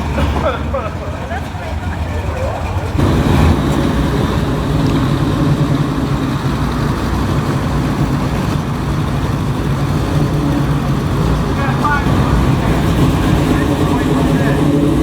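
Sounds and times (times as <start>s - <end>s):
engine running at low revs: 1.8s - 15.0s.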